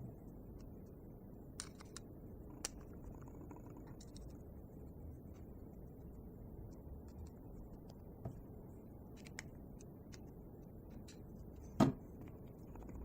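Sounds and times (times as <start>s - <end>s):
low steady background hum: 0.0s - 13.0s.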